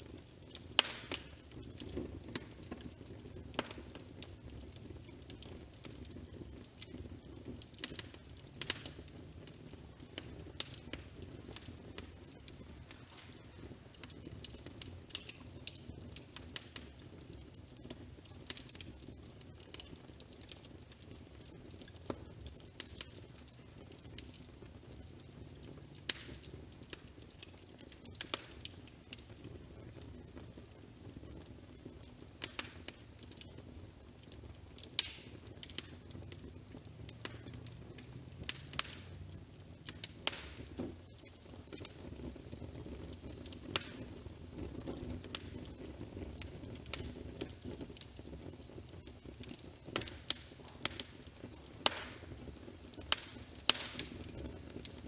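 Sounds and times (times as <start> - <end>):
fire popping and snapping: 0.0 - 55.0
fire rumbling: 0.0 - 55.0.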